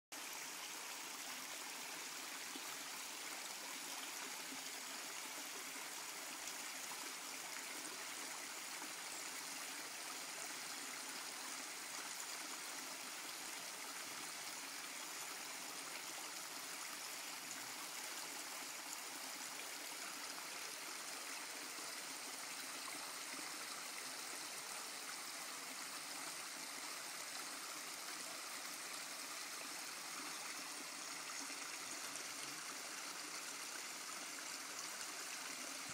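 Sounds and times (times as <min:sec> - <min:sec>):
stream babbling over stones: 0:00.2 - 0:35.9.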